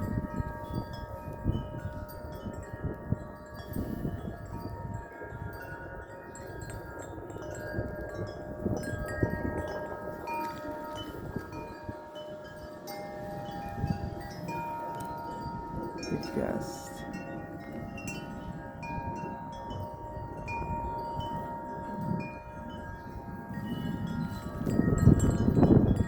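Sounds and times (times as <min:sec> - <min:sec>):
metal wind chimes ringing: 0:00.0 - 0:26.0
wind rumble on microphone: 0:00.0 - 0:26.0.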